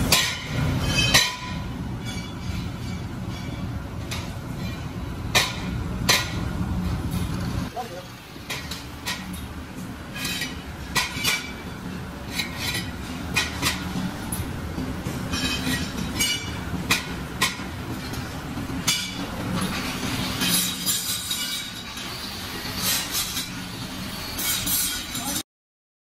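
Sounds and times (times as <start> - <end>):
steady low hum: 0.0 - 24.5
steel wheel rims clanking: 0.0 - 25.4.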